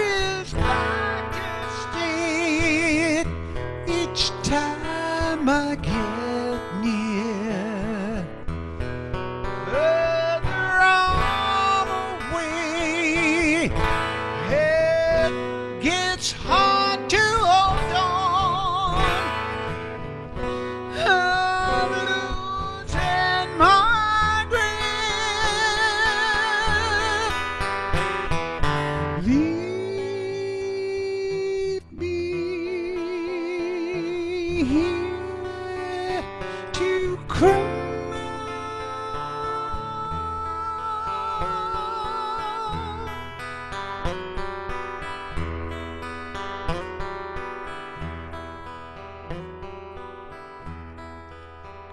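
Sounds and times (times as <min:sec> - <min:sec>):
guitar playing: 0:00.0 - 0:51.9.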